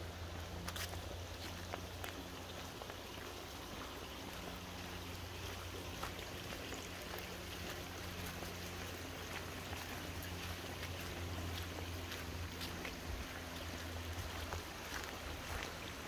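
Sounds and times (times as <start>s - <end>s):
stream flowing over stones: 0.0s - 16.0s.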